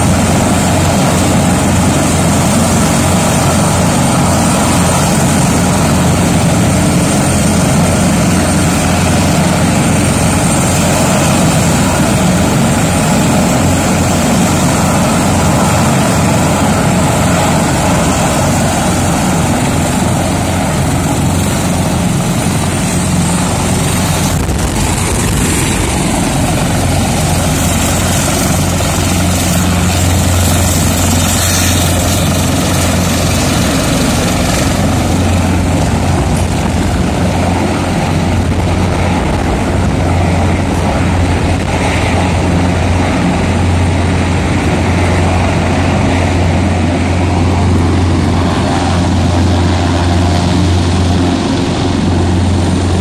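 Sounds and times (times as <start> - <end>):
helicopter rotor and turbine noise: 0.0 - 53.0.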